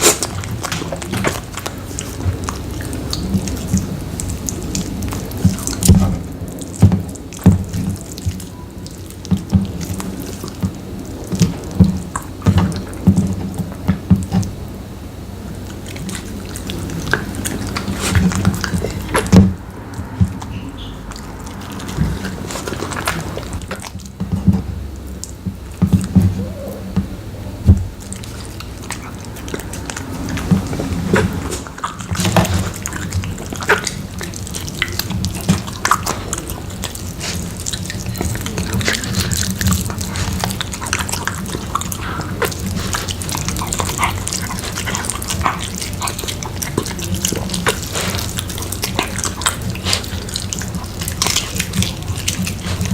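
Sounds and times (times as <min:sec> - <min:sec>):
dog chewing and licking: 0:00.0 - 0:14.8, 0:15.4 - 0:52.9.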